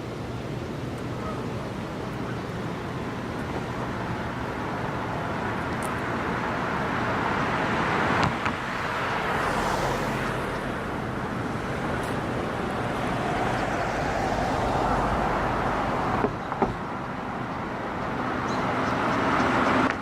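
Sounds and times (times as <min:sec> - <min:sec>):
road traffic tyre noise: 0:00.0 - 0:20.0.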